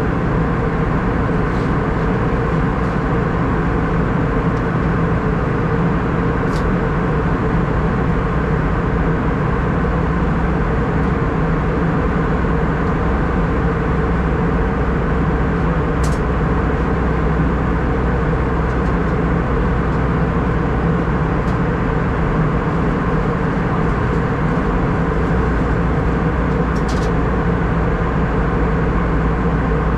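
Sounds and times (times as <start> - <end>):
airliner cabin rush and hum: 0.0 - 29.9.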